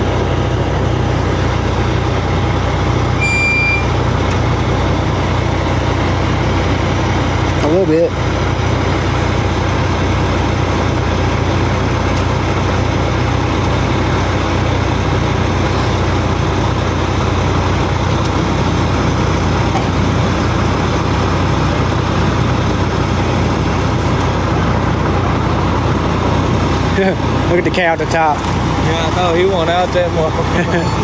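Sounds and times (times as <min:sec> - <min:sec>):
vehicle running rumble: 0:00.0 - 0:31.0.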